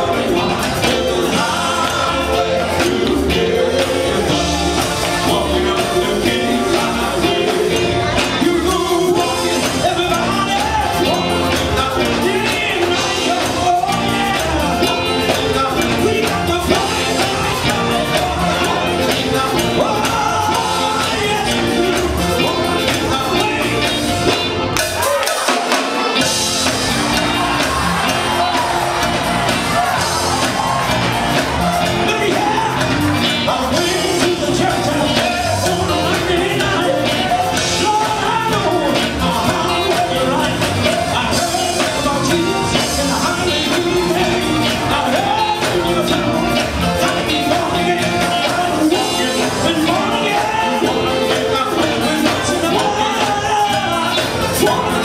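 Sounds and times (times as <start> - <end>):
bass guitar: 0.0 - 55.0
drum kit: 0.0 - 55.0
electric guitar: 0.0 - 55.0
keyboard: 0.0 - 55.0
male vocal group singing: 0.0 - 55.0.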